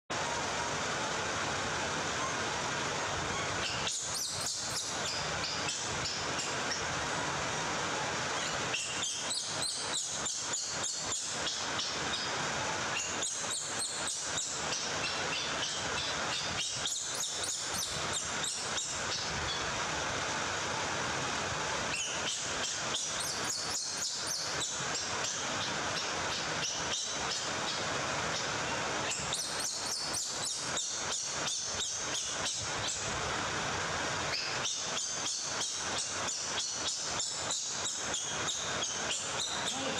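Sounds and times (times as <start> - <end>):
steady background hiss: 0.1 - 39.9.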